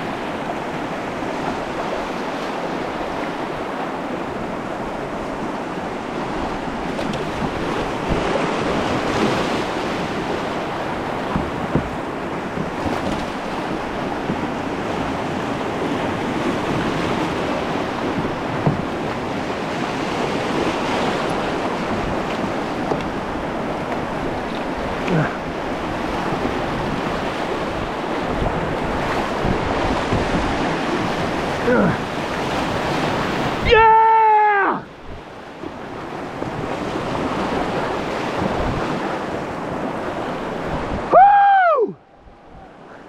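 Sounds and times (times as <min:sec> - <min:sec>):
river rapids rushing and splashing: 0:00.0 - 0:43.0
wind noise on microphone: 0:04.2 - 0:33.8, 0:35.0 - 0:43.0.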